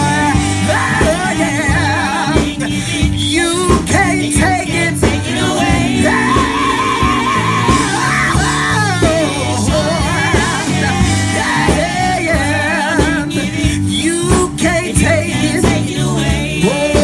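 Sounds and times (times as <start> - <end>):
gospel band playing: 0.0 - 17.0
lead singer belting vibrato notes: 0.0 - 17.0.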